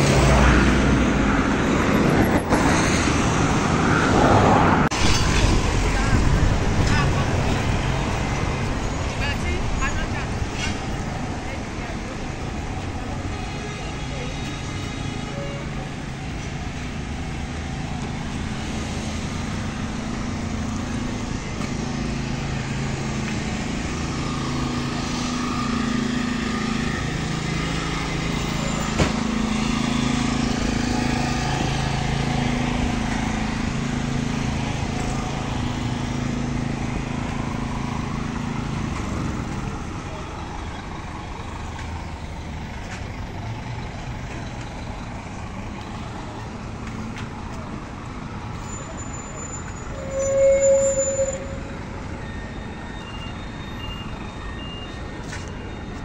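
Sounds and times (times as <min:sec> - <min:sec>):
traffic noise: 0:00.0 - 0:56.0
vehicle engine humming: 0:00.0 - 0:56.0.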